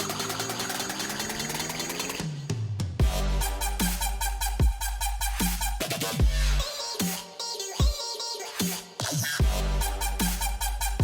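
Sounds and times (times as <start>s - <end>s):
electronic dance music: 0.0s - 2.4s, 3.0s - 11.0s.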